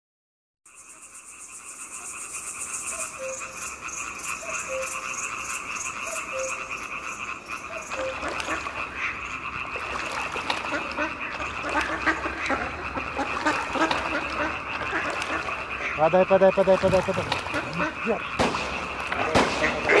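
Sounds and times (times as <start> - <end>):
chorus of frogs and insects: 0.7 - 20.0.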